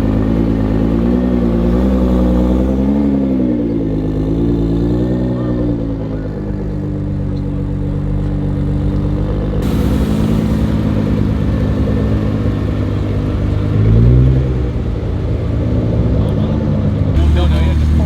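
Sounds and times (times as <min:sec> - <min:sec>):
car engine revving: 0:00.0 - 0:18.0
car engine running: 0:00.0 - 0:18.0.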